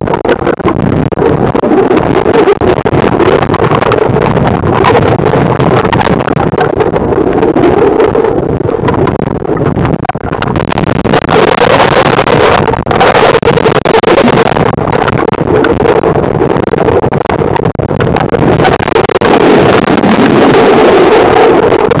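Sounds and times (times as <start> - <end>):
river rapids underwater: 0.0 - 22.0.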